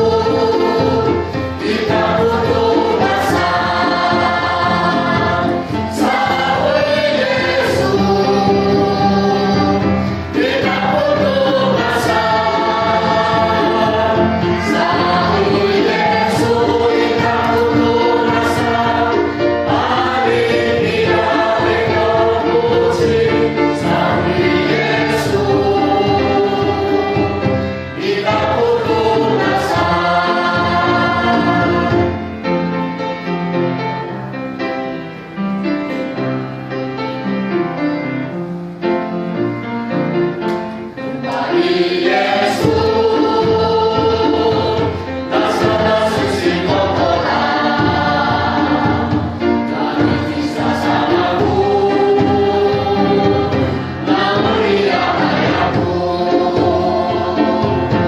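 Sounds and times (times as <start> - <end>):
congregation singing a hymn: 0.0 - 34.3, 40.0 - 58.0.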